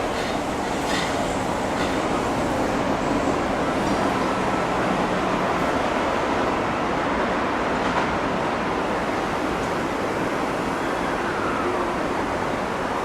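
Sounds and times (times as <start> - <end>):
metro train rushing: 0.0 - 13.0.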